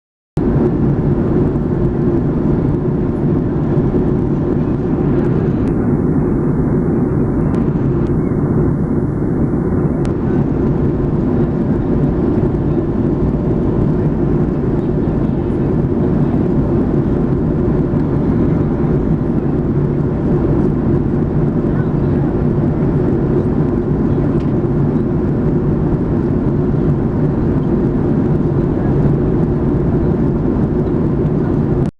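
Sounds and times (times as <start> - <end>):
airliner cabin engine and airflow noise: 0.4 - 31.9.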